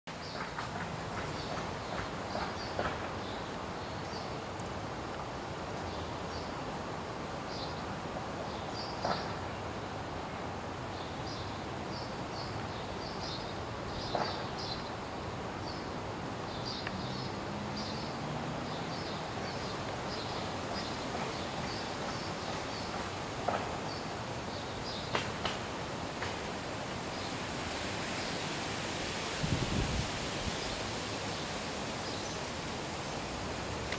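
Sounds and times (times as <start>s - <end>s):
background hiss: 0.1s - 33.9s.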